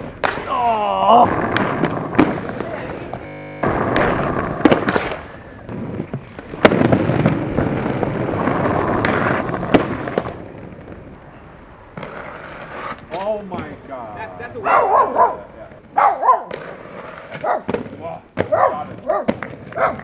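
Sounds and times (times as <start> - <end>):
skateboard clacking on ground: 0.0 - 13.8, 14.5 - 20.0
skateboard wheels rolling on pavement: 0.0 - 20.0.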